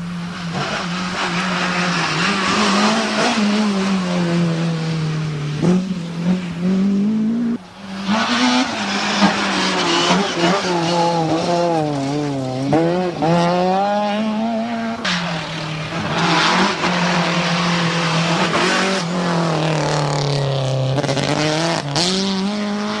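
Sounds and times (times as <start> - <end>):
rally cars revving past: 0.3 - 23.0.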